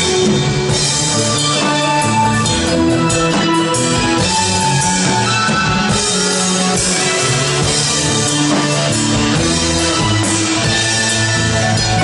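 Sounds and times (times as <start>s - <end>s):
band playing: 0.0s - 12.0s
drum kit: 0.0s - 12.0s
guitar: 0.0s - 12.0s.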